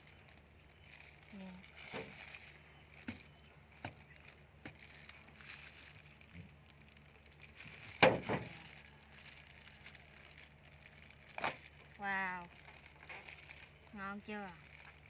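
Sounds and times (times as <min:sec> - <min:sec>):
husk cracking: 0:00.0 - 0:15.0.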